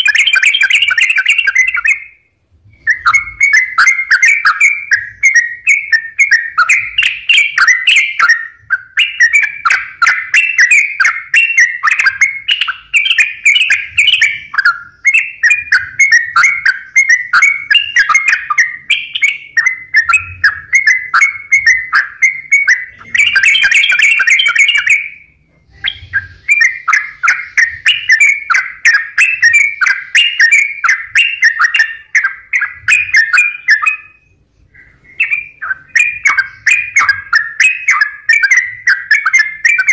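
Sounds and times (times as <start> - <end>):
bulbul singing bubbling chirps: 2.8 - 39.9.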